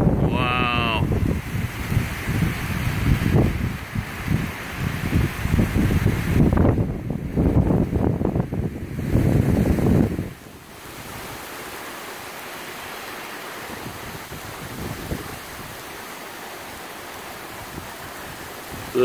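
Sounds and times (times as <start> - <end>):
wind buffeting microphone: 0.0 - 11.5, 13.7 - 16.0, 17.4 - 19.0
hurricane wind rushing: 0.0 - 19.0.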